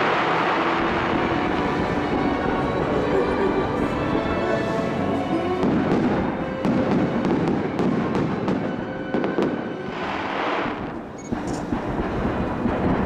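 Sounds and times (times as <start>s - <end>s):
fireworks bursting: 0.0s - 4.7s, 5.5s - 13.0s
fireworks hissing crackle: 0.0s - 13.0s.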